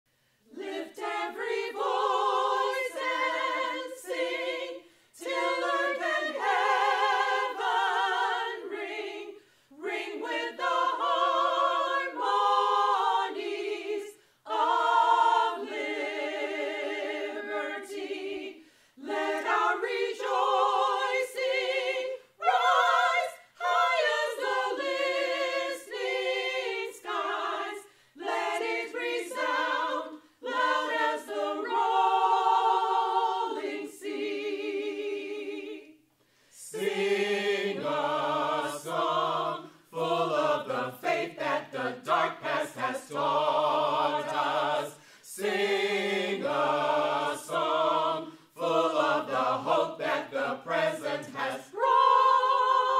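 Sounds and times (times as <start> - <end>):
mixed choir singing a cappella: 0.4 - 52.9.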